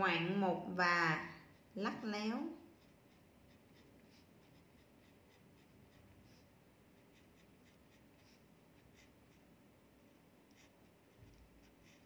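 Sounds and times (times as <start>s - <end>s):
pen scratching on paper: 1.2s - 12.0s.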